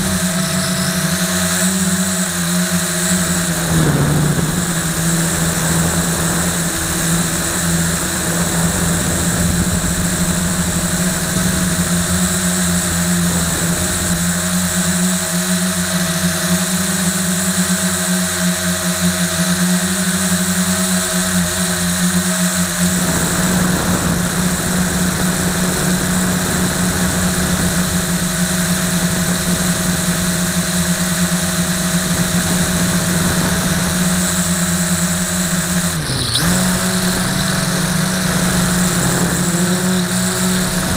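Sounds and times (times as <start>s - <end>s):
quadcopter propellers buzzing: 0.0s - 40.9s.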